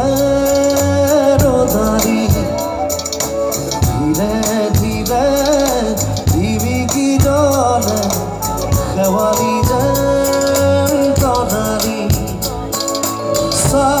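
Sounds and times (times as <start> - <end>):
drum kit: 0.0 - 14.0
person singing: 0.0 - 14.0.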